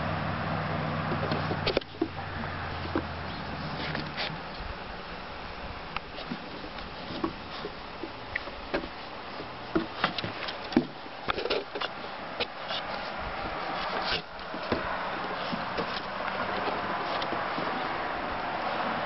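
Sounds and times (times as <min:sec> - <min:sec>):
outdoor hiss: 0:00.0 - 0:19.0
dog paws tapping on wooden deck: 0:01.1 - 0:04.7, 0:06.0 - 0:19.0.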